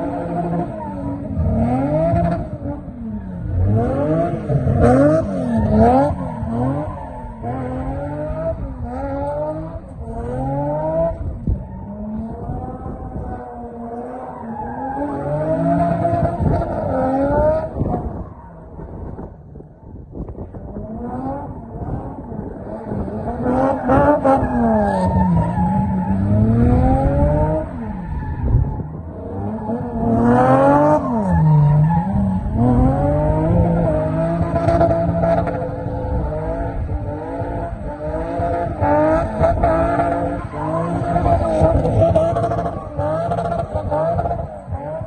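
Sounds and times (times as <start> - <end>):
car engine revving: 0.0 - 19.0, 20.6 - 45.0.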